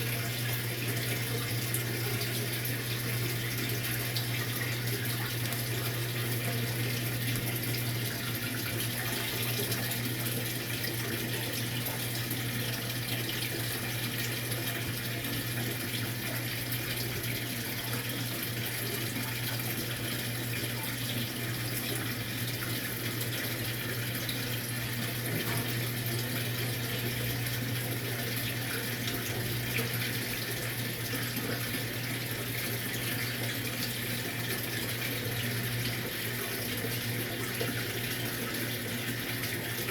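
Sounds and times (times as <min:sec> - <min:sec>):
water rushing in washing machine: 0:00.0 - 0:39.9.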